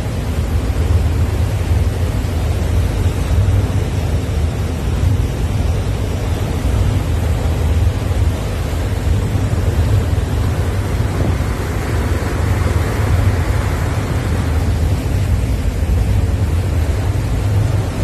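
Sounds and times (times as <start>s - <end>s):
ferry engine low rumble: 0.0s - 18.0s
rushing of churning wake: 0.0s - 18.0s.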